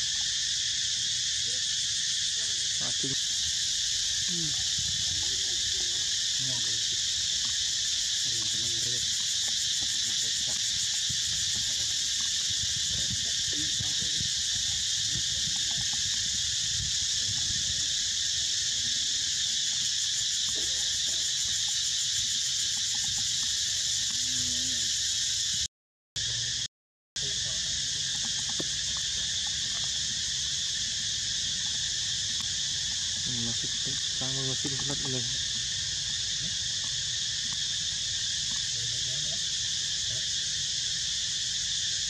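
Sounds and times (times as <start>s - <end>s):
high-pitched insect chorus drone: 0.0s - 42.0s.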